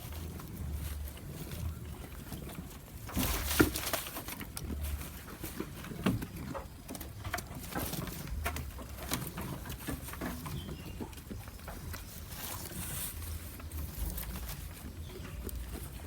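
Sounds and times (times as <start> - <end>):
goat chewing crunchy food: 0.0 - 16.0.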